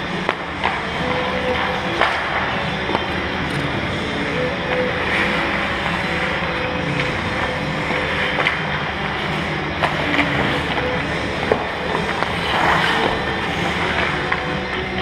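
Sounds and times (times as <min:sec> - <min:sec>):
skate blades scraping on ice: 0:00.0 - 0:15.0
sticks and pucks knocking: 0:00.0 - 0:15.0.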